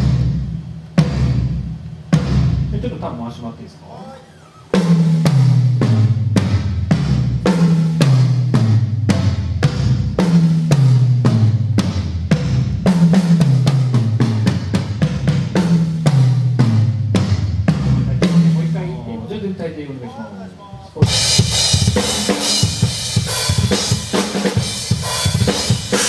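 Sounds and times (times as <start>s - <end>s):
drum kit played hard: 0.0s - 19.9s, 20.6s - 26.0s.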